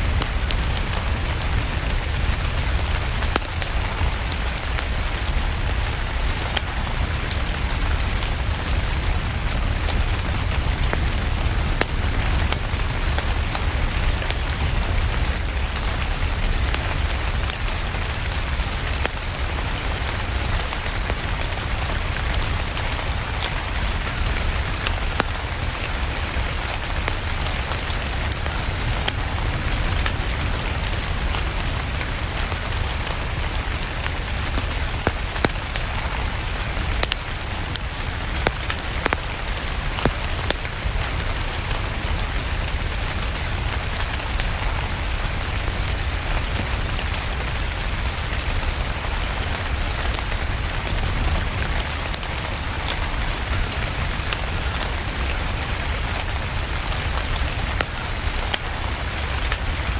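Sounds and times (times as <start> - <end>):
rain falling: 0.0 - 59.9
wood fire crackling: 0.0 - 59.9.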